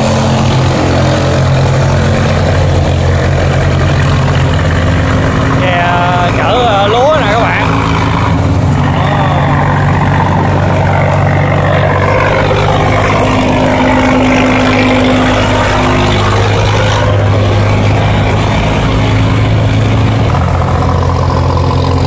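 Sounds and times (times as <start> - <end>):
boat engines humming: 0.0 - 22.0
churning water: 0.0 - 22.0.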